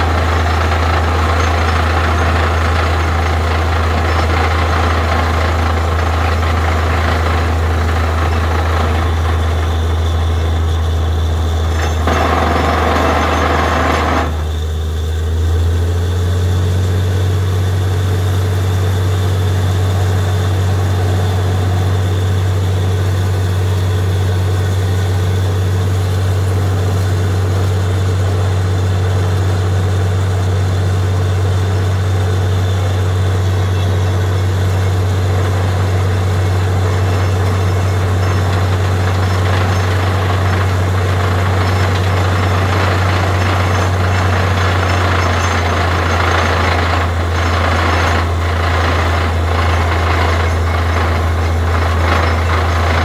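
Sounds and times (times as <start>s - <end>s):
diesel engine drone: 0.0s - 53.0s.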